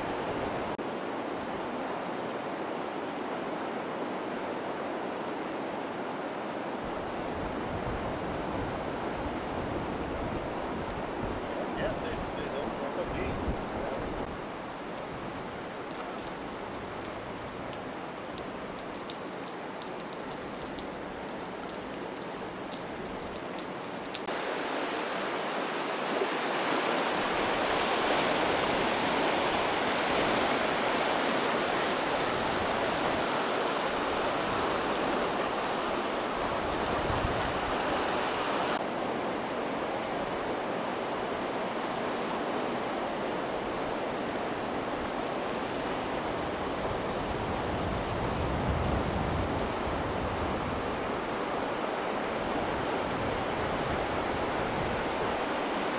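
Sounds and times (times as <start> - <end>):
floodwater rushing: 0.0 - 55.9.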